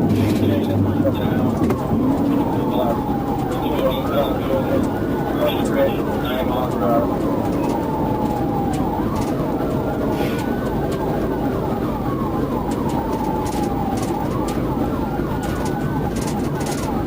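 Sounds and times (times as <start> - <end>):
car engine and road noise: 0.0 - 17.0
police siren wailing: 0.0 - 17.0
siren yelp sweep: 0.0 - 17.0.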